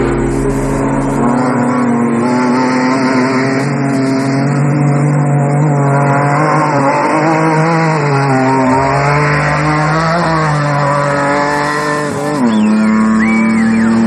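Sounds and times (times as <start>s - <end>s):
race vehicle engine running hard: 0.0s - 14.0s.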